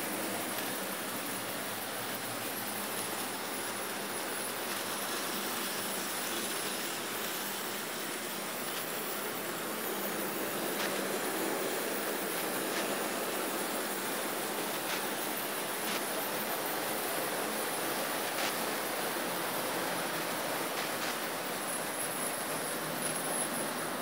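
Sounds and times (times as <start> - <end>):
model trains running on rails: 0.0 - 24.0.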